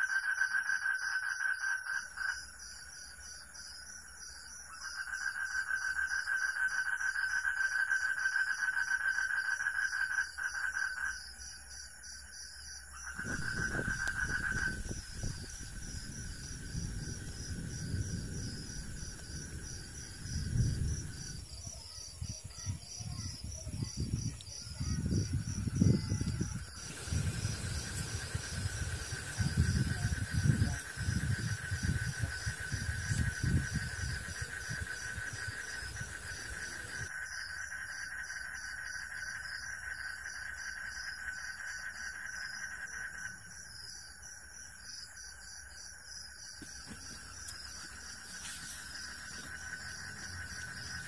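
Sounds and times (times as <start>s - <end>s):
insect continuous high trill: 0.0s - 51.0s
insect fast pulsed chirp: 0.0s - 51.0s.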